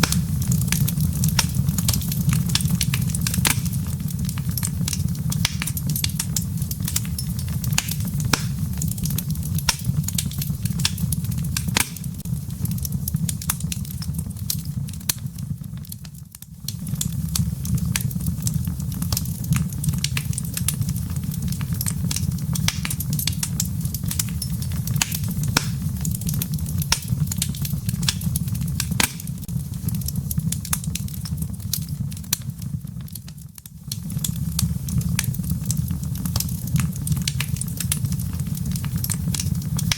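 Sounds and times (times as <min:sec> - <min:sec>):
embers crackling and popping: 0:00.0 - 0:39.9
low rumble of flames: 0:00.0 - 0:39.9.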